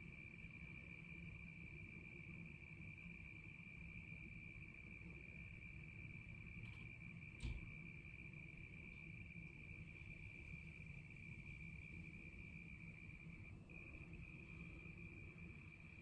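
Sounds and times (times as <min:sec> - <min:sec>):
cricket trilling: 0:00.0 - 0:16.0.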